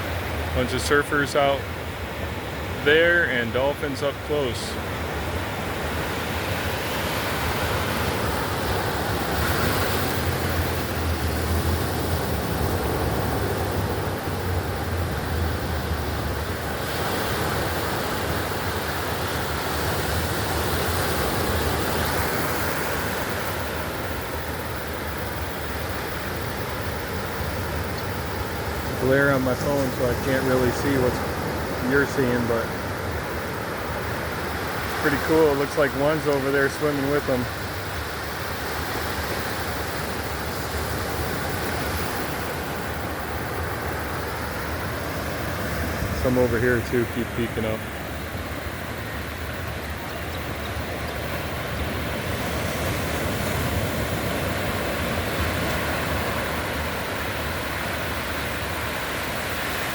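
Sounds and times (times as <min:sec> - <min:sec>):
surf breaking on beach: 0:00.0 - 0:59.9.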